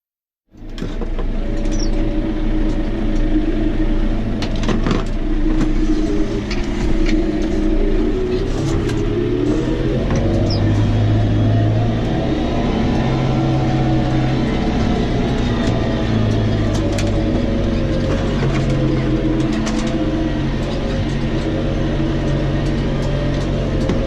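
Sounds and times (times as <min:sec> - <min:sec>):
tractor diesel engine running: 0:00.5 - 0:24.0.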